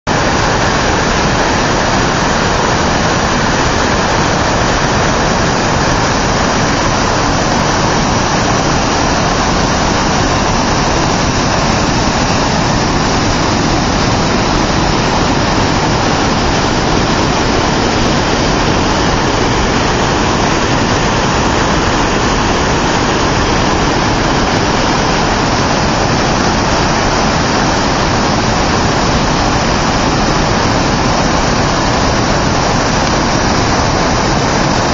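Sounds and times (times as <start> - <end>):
floodwater rushing: 0.1 - 34.9.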